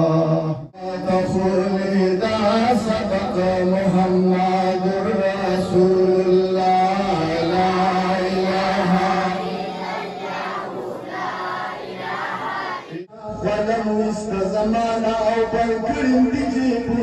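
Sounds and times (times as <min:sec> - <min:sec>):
man chanting into microphone: 0:00.0 - 0:09.5, 0:12.9 - 0:17.0.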